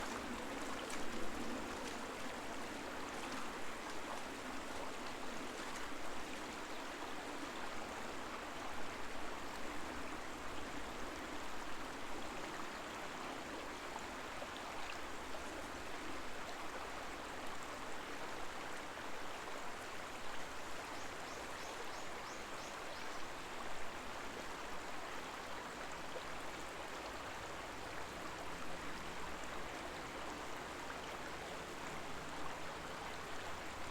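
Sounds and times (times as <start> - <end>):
shallow river flowing: 0.0 - 33.9.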